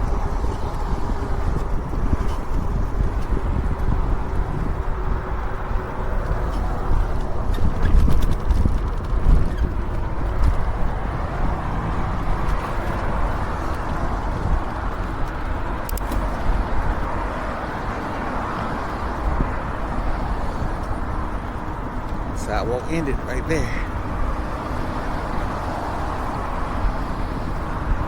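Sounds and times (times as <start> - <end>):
passing cars: 0.0 - 28.0
wind rumble on microphone: 0.0 - 28.0.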